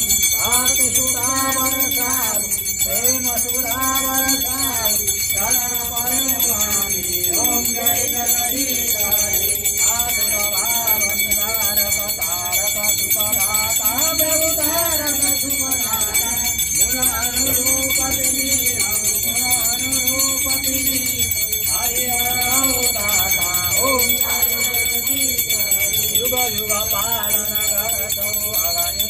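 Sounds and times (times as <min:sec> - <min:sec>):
bell ringing: 0:00.0 - 0:29.0
people singing a hymn: 0:00.0 - 0:29.0.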